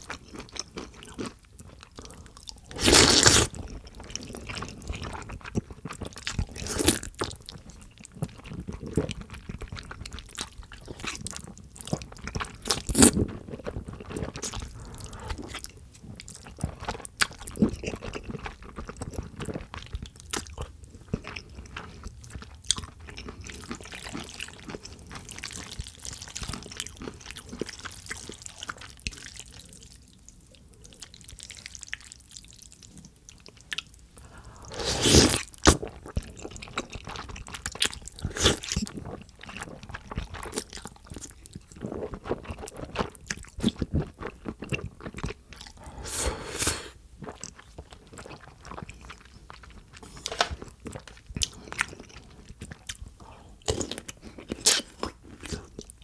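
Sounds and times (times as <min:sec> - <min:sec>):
wet chewing and slurping noodles: 0:00.0 - 0:56.0.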